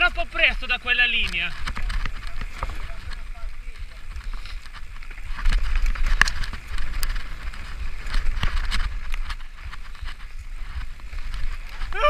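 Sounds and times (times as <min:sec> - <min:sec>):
bike rattling: 0:00.0 - 0:12.0
bike tyres rolling over dirt: 0:00.0 - 0:12.0
wind rumble on microphone: 0:00.0 - 0:12.0.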